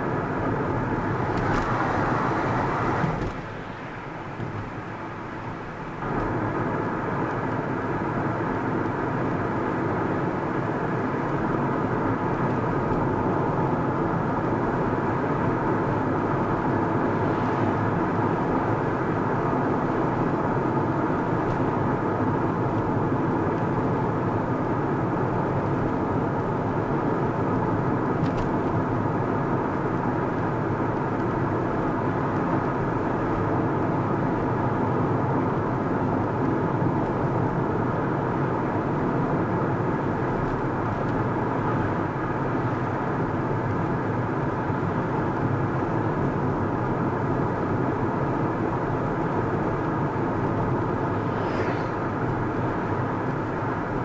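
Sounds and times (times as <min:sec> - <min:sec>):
car driving road noise: 0:00.0 - 0:54.0.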